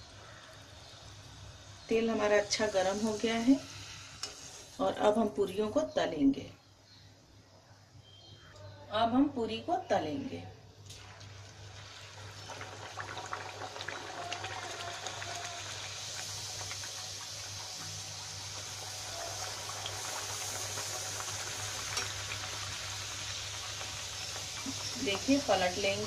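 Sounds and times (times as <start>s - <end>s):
oil sizzling: 0.0s - 5.8s, 10.8s - 26.0s.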